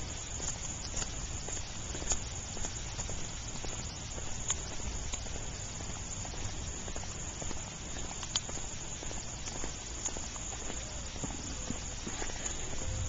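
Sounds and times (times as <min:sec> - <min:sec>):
light rain patter: 0:00.0 - 0:13.0
steady hiss: 0:00.0 - 0:13.0.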